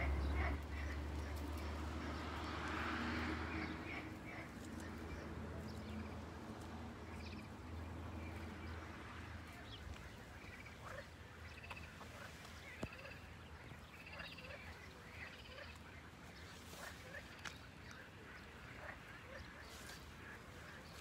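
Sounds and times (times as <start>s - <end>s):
frogs croaking: 0.0s - 6.3s, 7.0s - 21.0s.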